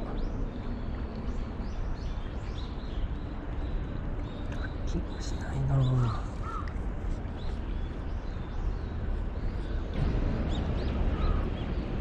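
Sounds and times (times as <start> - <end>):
low background rumble: 0.0 - 12.0
small birds chirping: 0.0 - 12.0.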